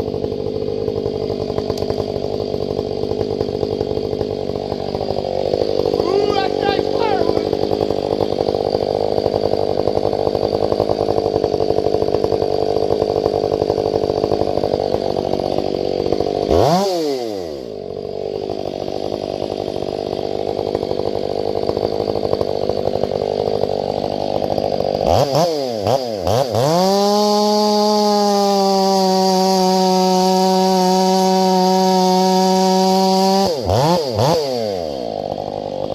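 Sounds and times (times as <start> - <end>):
chainsaw cutting log: 0.0 - 35.9.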